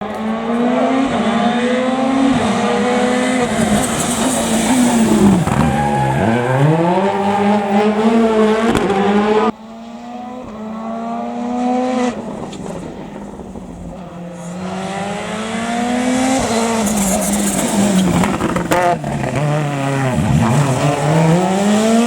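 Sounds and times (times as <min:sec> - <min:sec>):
car accelerating: 0:00.0 - 0:22.0
rally car engine at full throttle: 0:00.0 - 0:22.0.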